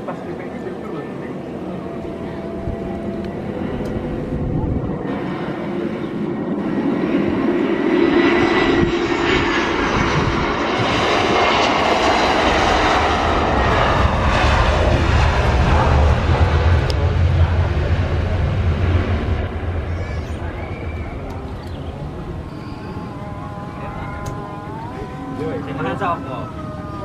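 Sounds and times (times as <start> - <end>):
jet airliner engines landing: 0.0 - 27.0.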